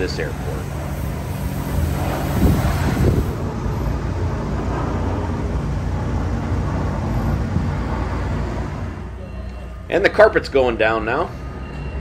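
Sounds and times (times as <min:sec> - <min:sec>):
jet airliner flying overhead: 0:00.0 - 0:12.0.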